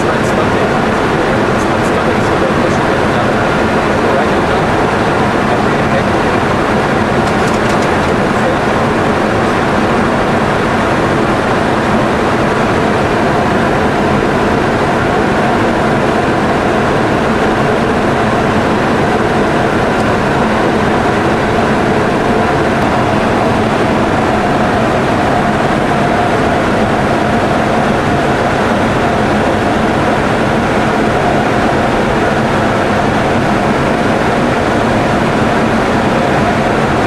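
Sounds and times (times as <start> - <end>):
cockpit wind and engine noise: 0.0 - 37.0.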